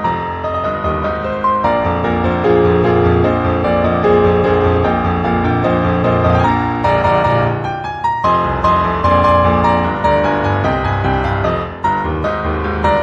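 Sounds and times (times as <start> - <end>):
piano music with steady beat: 0.0 - 13.0.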